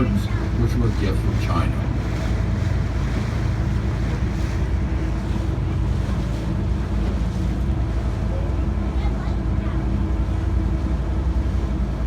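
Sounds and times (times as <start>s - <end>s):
boat engine humming: 0.0s - 12.0s
water rushing past hull: 0.0s - 12.0s.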